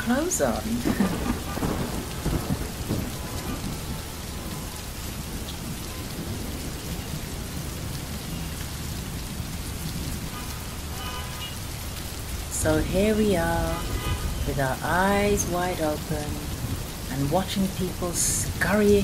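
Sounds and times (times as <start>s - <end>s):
rain falling: 0.0s - 19.0s
thunder rumble: 0.0s - 19.0s.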